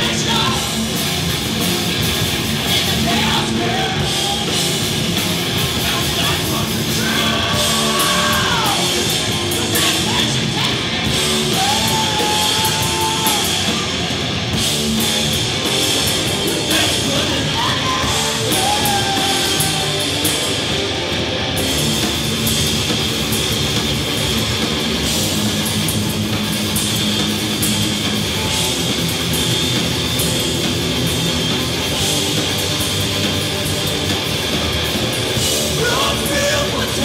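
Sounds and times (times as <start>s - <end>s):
drum kit: 0.0s - 37.0s
electric guitar: 0.0s - 37.0s.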